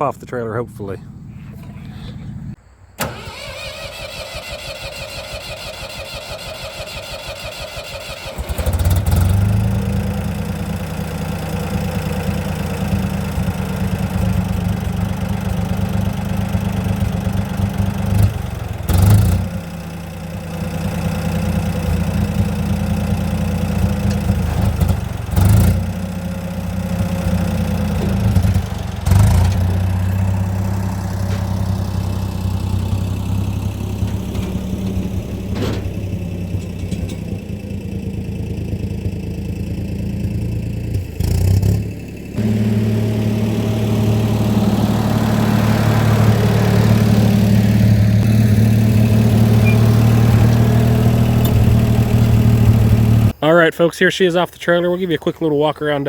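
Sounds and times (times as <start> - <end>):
short loud engine bursts: 1.2 - 40.1, 40.9 - 53.4
starter cranking engine: 3.0 - 53.4
engine running steadily: 5.3 - 53.4.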